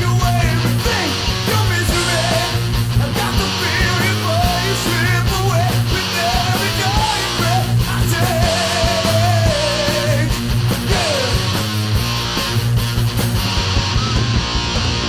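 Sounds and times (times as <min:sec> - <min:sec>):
rock band music: 0:00.0 - 0:15.0.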